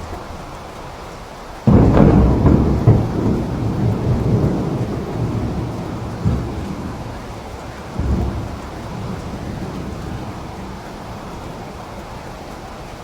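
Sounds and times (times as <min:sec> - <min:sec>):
rain falling: 0:00.0 - 0:13.0
thunder clap rolling: 0:01.6 - 0:13.0.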